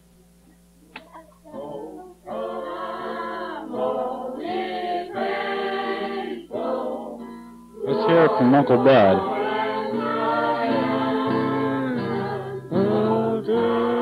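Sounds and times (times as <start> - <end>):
steady low hum: 0.0 - 14.0
voices singing unaccompanied: 1.0 - 14.0.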